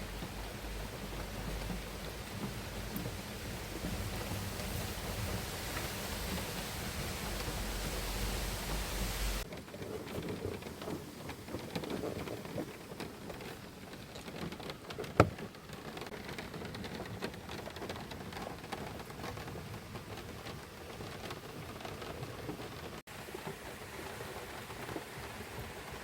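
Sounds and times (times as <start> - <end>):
raindrops ticking on a surface: 0.0 - 26.0.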